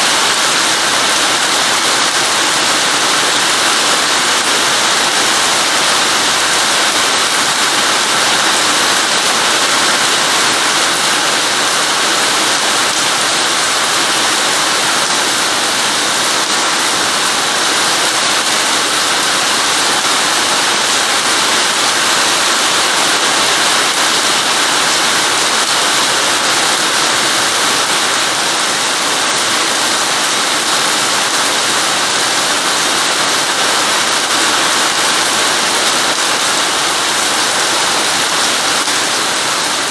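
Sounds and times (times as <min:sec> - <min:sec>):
heavy rain falling: 0:00.0 - 0:39.9
rain drops ticking: 0:00.0 - 0:39.9.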